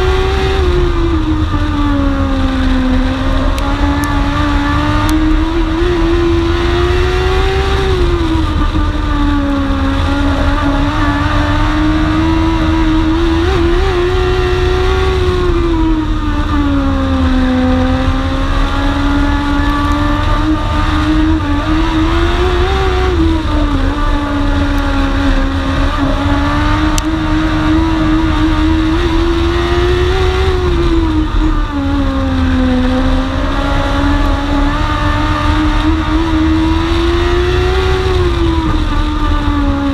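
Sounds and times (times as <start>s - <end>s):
race car engine revving: 0.0s - 39.9s
wind rumble on camera: 0.0s - 39.9s.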